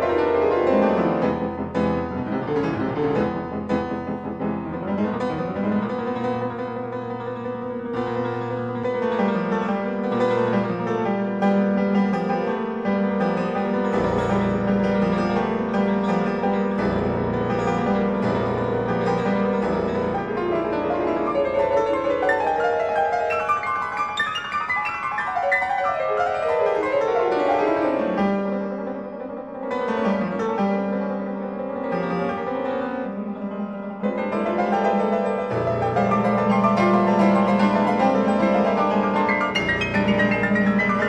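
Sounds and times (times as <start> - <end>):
solo piano: 0.0 - 41.0.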